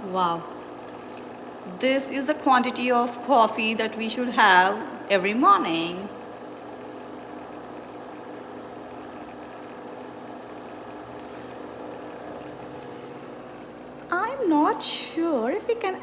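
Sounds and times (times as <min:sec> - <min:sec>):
coffee machine motor hum: 0:00.0 - 0:16.0.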